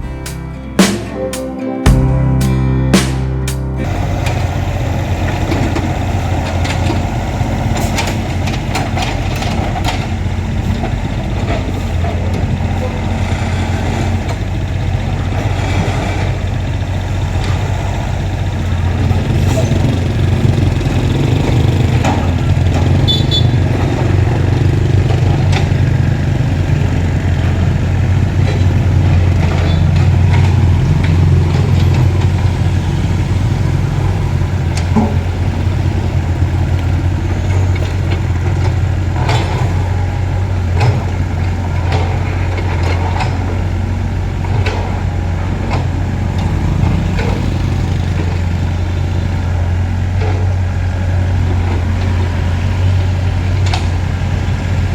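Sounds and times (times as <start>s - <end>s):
diesel engine humming: 1.9s - 54.9s.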